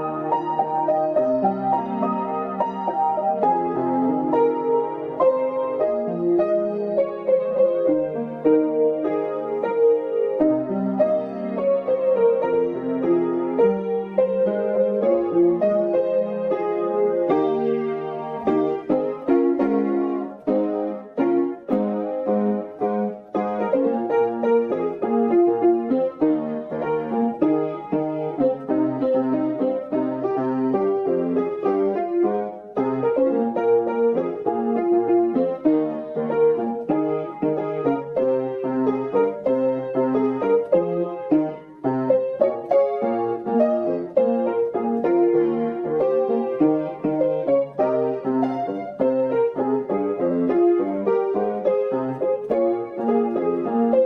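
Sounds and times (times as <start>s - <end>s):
piano chords: 0.0s - 54.0s.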